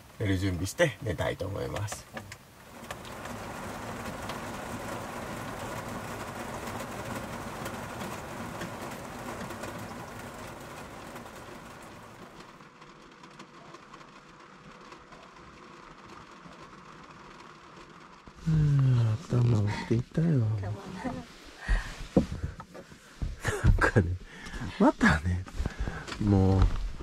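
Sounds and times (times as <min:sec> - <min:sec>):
rain on vehicle roof: 0:00.0 - 0:27.0.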